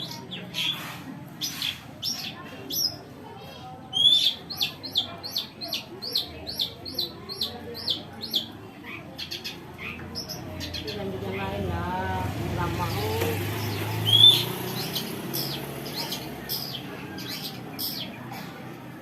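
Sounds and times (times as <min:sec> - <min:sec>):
songbird chirping: 0:00.0 - 0:18.4.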